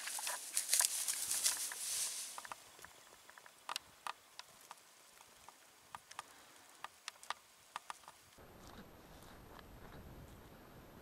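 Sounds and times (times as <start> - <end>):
faint ticks and clicks: 0.0 - 10.4
low hiss: 0.0 - 11.0.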